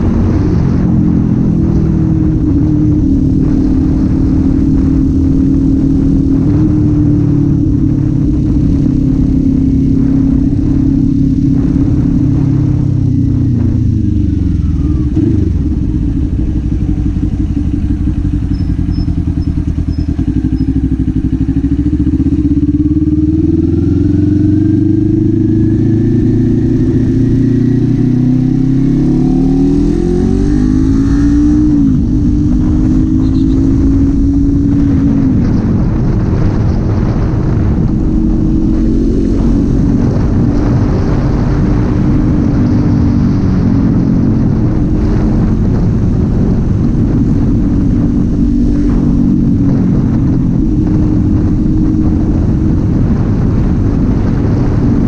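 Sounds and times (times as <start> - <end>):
motorcycle engine and exhaust: 0.0 - 55.0
rushing wind noise: 0.0 - 55.0.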